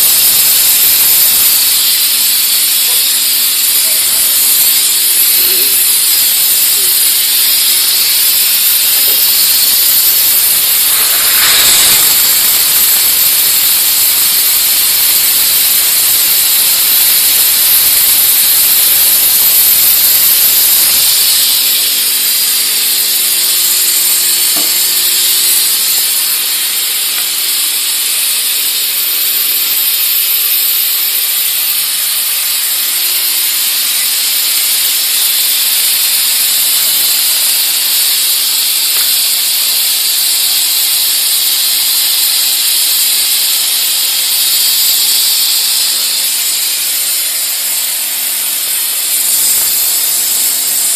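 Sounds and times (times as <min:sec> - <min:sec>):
steam hissing from spray gun: 0:00.0 - 0:50.9.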